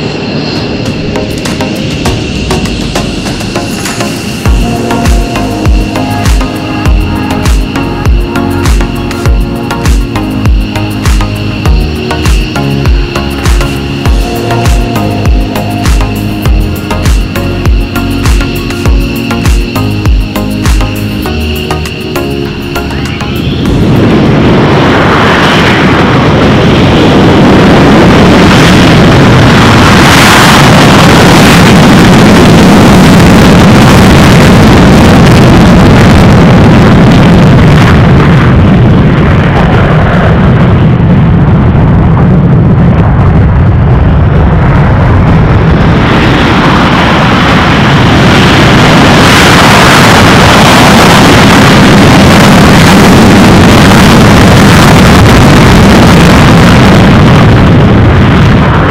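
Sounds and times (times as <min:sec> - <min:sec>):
jet engine roar: 0:00.0 - 0:58.9.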